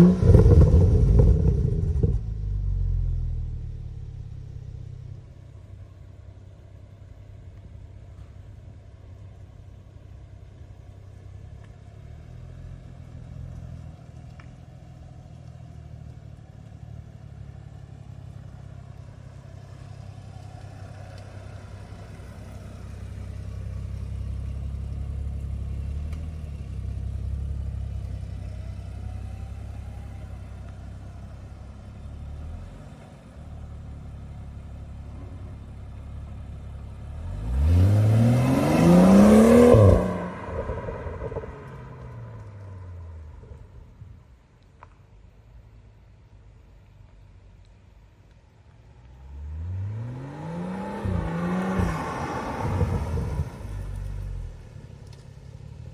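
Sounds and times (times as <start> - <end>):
car engine rumbling: 0.0 - 55.9.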